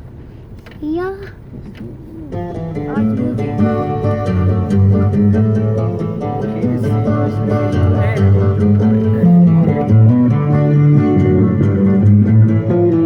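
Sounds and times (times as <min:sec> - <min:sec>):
plucked guitar: 0:01.5 - 0:13.0
bass line: 0:01.8 - 0:13.0.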